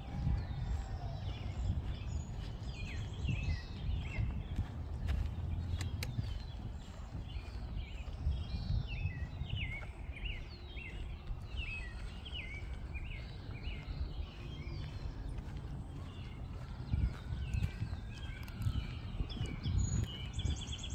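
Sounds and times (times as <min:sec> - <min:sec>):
rumble of footsteps: 0:00.0 - 0:20.9
songbirds chirping: 0:00.0 - 0:20.9.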